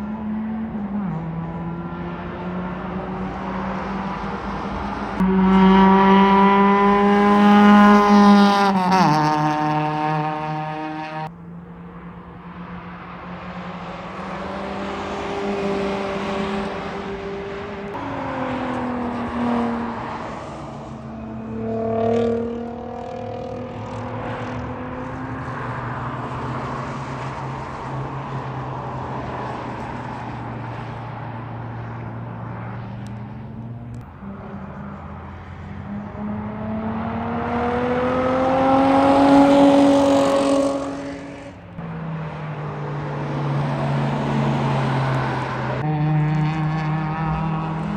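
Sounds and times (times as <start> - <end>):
sports car engine racing: 0.0 - 47.9.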